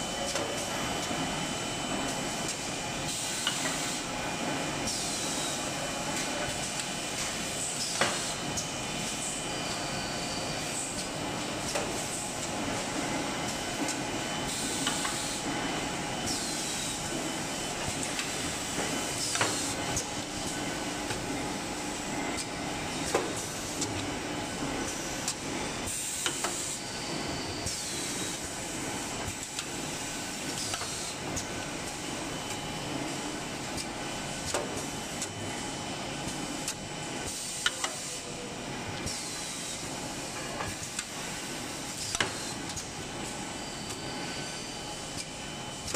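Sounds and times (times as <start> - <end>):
machine running steadily: 0.0 - 45.9.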